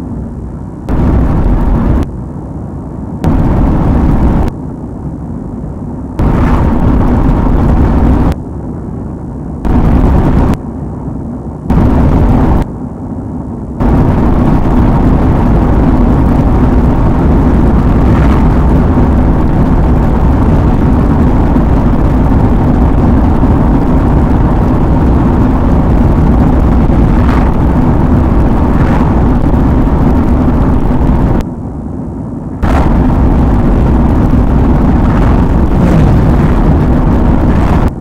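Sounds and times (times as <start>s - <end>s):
loud low rumbling noise: 0.0s - 38.0s.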